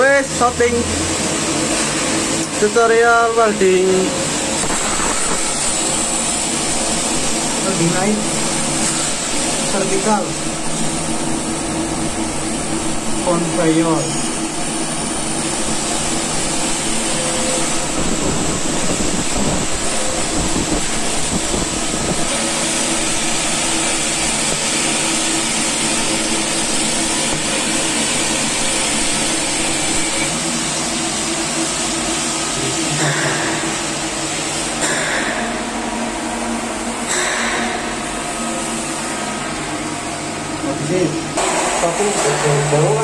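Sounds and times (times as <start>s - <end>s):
welder humming and hissing: 0.0s - 43.0s.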